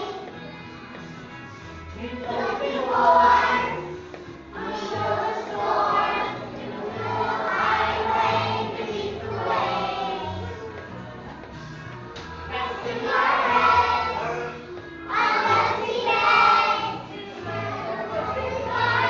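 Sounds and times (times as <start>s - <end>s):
children singing together: 0.0s - 0.4s, 2.2s - 10.8s, 12.5s - 19.0s
musical accompaniment with bass: 0.0s - 19.0s.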